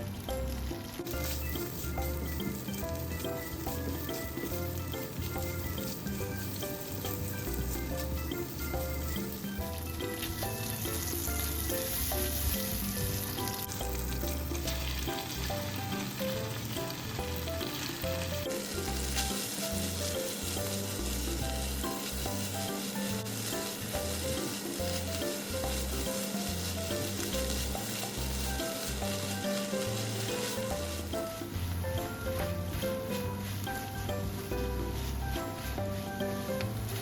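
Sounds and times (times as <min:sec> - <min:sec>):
background music: 0:00.0 - 0:37.0
food sizzling in a frying pan: 0:00.0 - 0:37.0.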